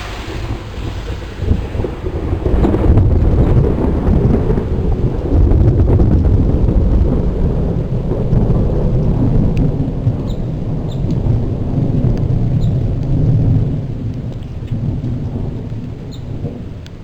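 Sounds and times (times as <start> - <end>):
falling rain: 0.0 - 17.0
thunder rumbling: 0.0 - 17.0.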